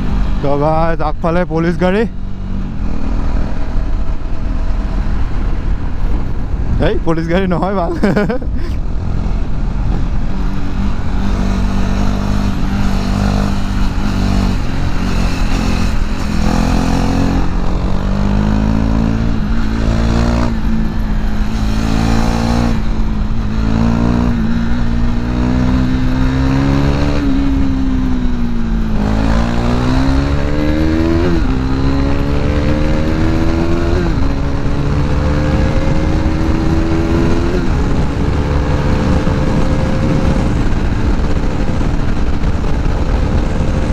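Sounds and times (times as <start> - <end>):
motorcycle engine at speed: 0.0 - 43.9
rush of wind: 0.0 - 43.9.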